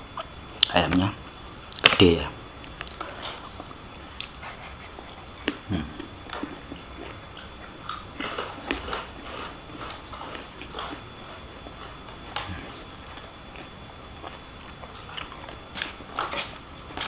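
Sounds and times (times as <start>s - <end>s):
person chewing and biting: 2.6s - 17.0s.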